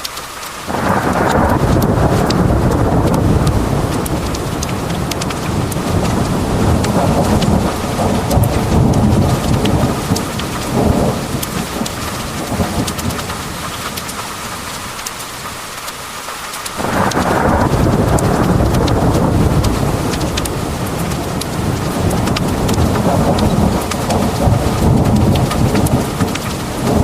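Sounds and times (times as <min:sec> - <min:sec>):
heavy rain hissing: 0:00.0 - 0:27.0
thunder rumbling: 0:00.7 - 0:15.5, 0:16.8 - 0:27.0
drops ticking on a surface: 0:01.2 - 0:27.0.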